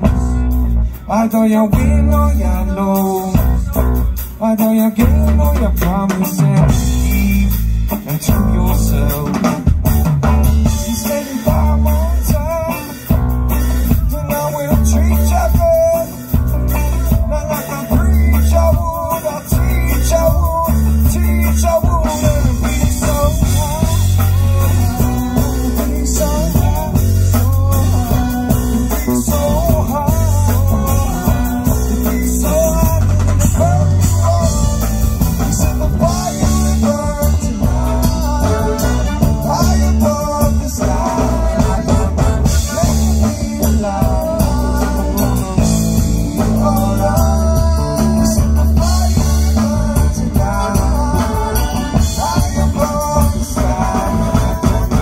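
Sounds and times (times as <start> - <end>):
heavy pulsing bass line: 0.0 - 55.0
reggae-rock band playing: 0.0 - 55.0.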